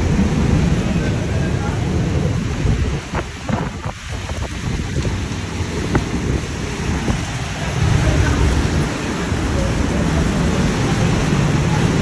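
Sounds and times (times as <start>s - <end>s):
rain hiss: 0.0s - 12.0s
wind buffeting microphone: 0.0s - 12.0s.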